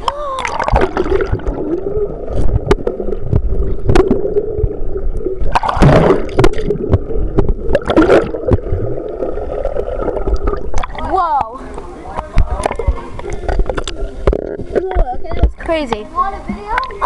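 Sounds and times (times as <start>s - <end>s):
water rushing: 0.0s - 17.0s
water sloshing and gurgling: 0.0s - 17.0s.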